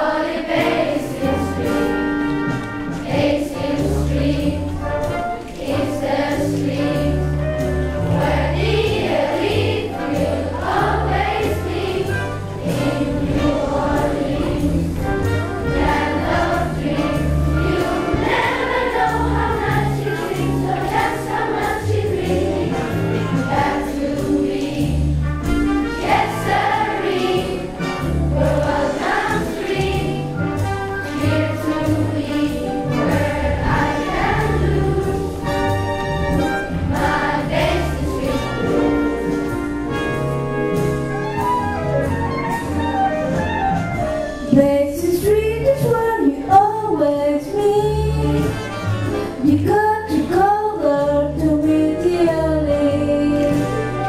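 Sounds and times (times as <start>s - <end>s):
bass line accompaniment: 0.0s - 54.0s
children's choir singing jazz: 0.0s - 54.0s.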